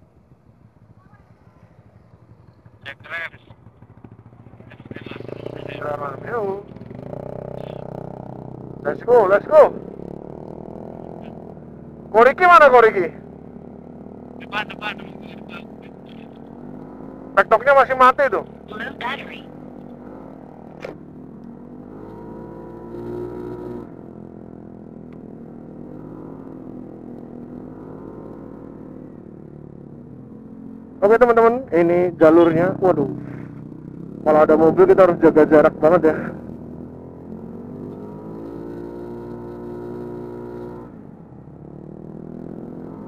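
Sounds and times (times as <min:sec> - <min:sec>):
scooter engine running: 0:00.0 - 0:43.0.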